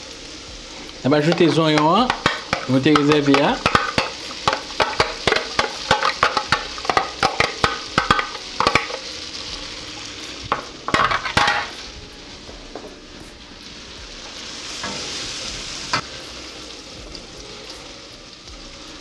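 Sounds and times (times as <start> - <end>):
onion sizzling in butter: 0.0 - 19.0.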